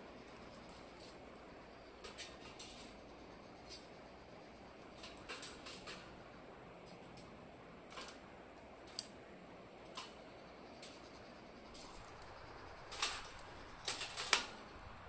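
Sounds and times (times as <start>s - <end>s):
firewood crackling on charcoal: 0.0s - 15.0s.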